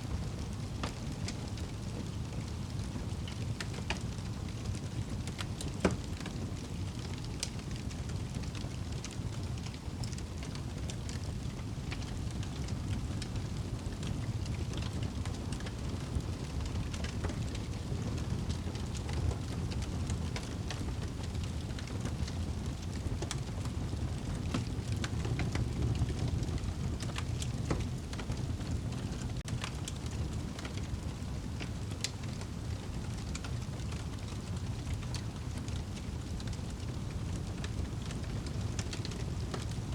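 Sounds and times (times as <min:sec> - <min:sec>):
fire flames rumbling: 0:00.0 - 0:39.9
burning wood crackling and popping: 0:00.1 - 0:39.9.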